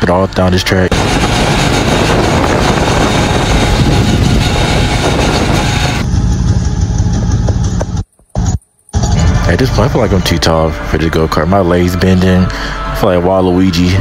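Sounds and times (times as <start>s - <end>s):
go-kart engine and road noise: 0.0s - 12.5s.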